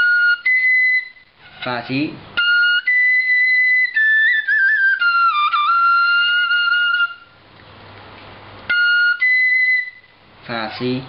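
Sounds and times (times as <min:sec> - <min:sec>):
bamboo flute playing: 0:00.0 - 0:07.4, 0:08.6 - 0:11.0.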